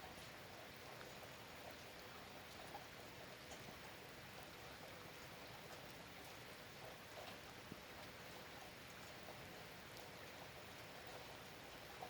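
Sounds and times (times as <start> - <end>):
rain drops ticking: 0.0 - 12.0
soft steady rain: 0.0 - 12.0.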